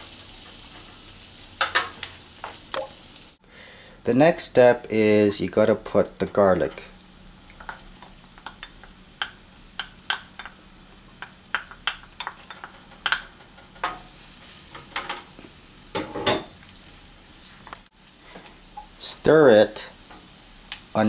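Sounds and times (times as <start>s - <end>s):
garlic sizzling in butter: 0.0s - 3.4s, 6.3s - 21.0s.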